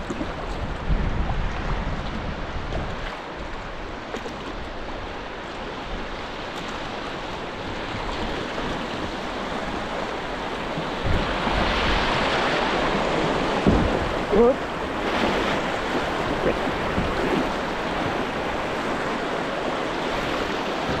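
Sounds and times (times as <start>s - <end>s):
river water rushing over rocks: 1.8s - 21.0s.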